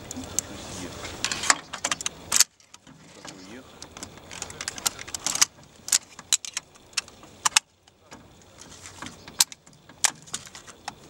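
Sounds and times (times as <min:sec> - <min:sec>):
rifle parts metallic clicks: 0:01.2 - 0:11.0.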